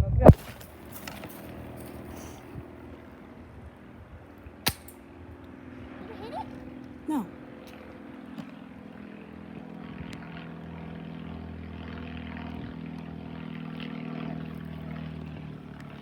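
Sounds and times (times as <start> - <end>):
distant engine droning: 0.4 - 16.0.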